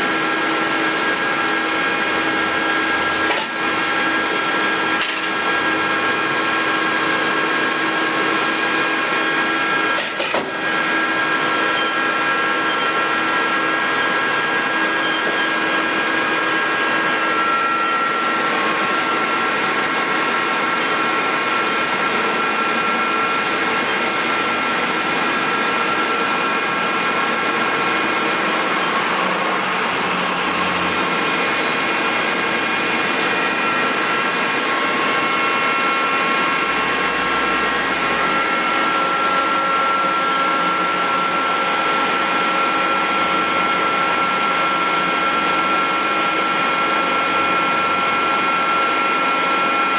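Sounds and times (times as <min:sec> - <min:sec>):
lathe running with whine: 0:00.0 - 0:49.9.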